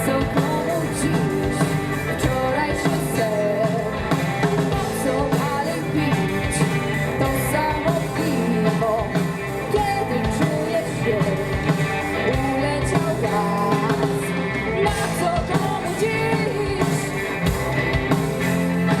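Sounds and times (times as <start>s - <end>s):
drums and bass beat: 0.0s - 19.0s
live rock band playing: 0.0s - 19.0s.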